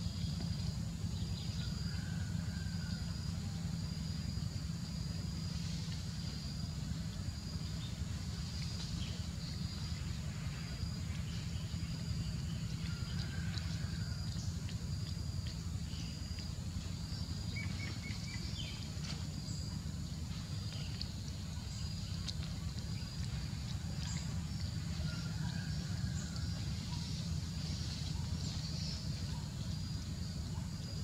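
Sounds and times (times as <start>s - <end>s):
constant low rumble: 0.0s - 31.0s.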